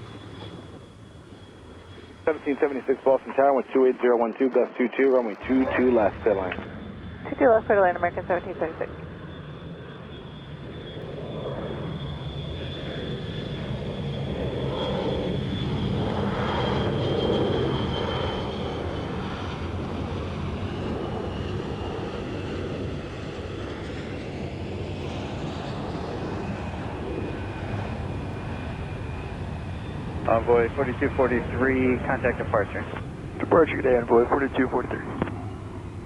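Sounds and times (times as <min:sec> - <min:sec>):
high engine whine: 0:00.0 - 0:36.0
jet engines roaring: 0:00.0 - 0:36.0.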